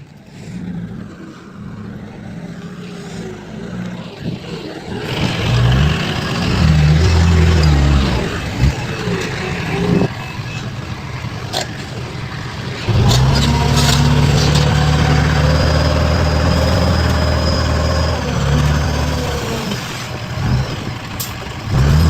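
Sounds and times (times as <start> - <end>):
heavy diesel engine running: 0.1 - 22.0.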